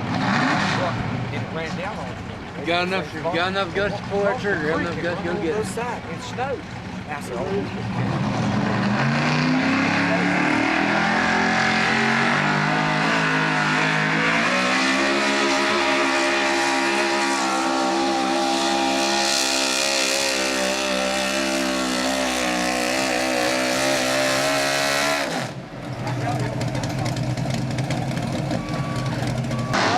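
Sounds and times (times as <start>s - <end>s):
truck engine revving hard: 0.0s - 2.0s, 2.8s - 29.9s.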